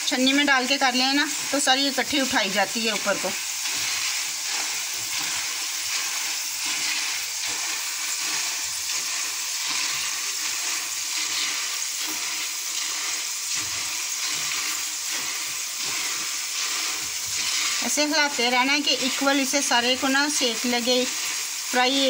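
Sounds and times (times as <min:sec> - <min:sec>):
oil sizzling while deep-frying: 0:00.0 - 0:22.0.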